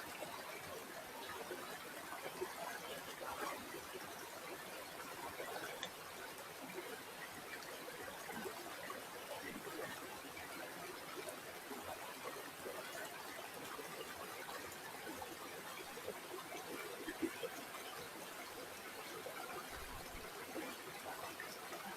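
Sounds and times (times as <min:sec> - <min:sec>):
river water flowing and splashing: 0:00.0 - 0:21.9.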